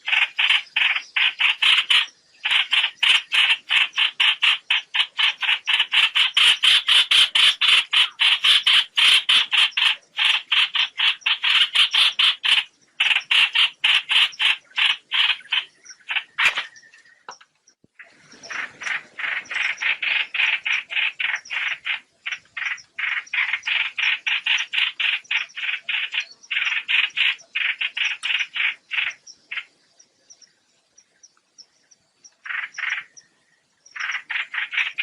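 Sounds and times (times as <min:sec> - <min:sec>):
harsh bird flock calls: 0:00.0 - 0:17.4, 0:18.0 - 0:29.8, 0:32.4 - 0:33.2, 0:33.9 - 0:35.0.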